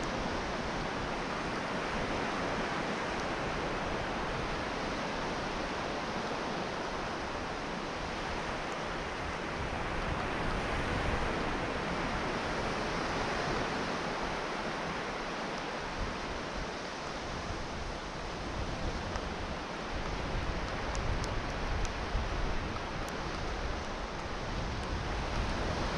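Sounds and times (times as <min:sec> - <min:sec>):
sea surf breaking: 0:00.0 - 0:25.9
wind: 0:00.0 - 0:25.9.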